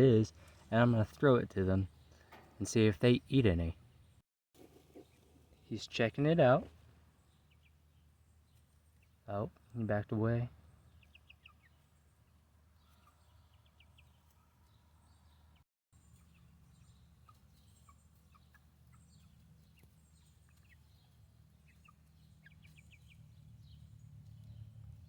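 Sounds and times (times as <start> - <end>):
chickens chirping: 0.0 - 25.0.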